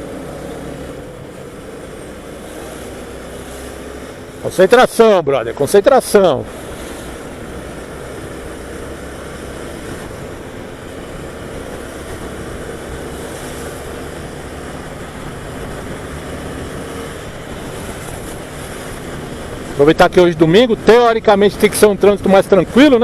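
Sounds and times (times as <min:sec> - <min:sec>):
motorcycle engine steady note: 0:00.0 - 0:23.0
wind rushing over microphone: 0:00.0 - 0:23.0.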